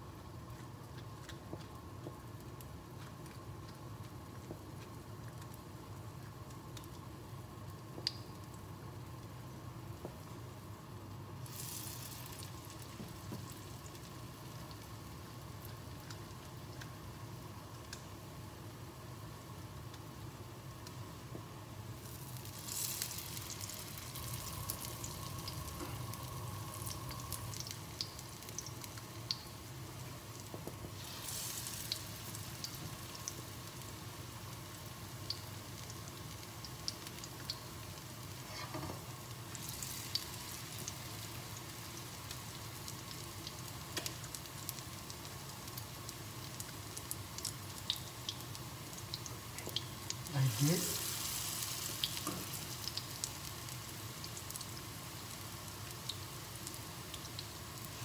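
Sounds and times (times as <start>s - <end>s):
fritters sizzling in oil: 0.0s - 58.0s.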